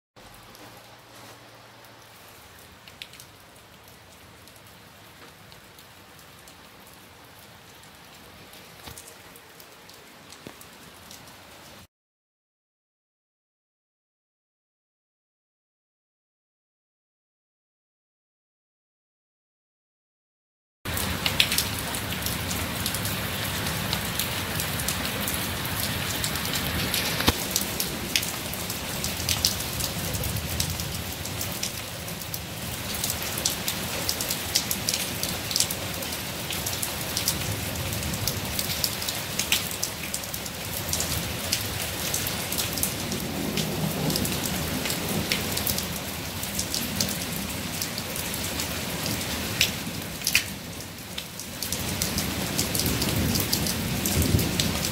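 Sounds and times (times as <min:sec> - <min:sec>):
rain on wet pavement: 0:00.2 - 0:11.9, 0:20.9 - 0:54.9.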